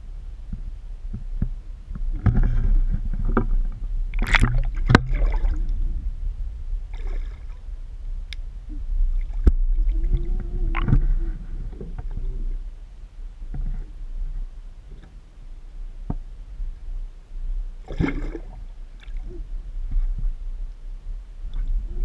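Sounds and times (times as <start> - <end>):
steady low rumble: 0.0 - 22.0
muffled water sloshing and gurgling: 0.2 - 22.0.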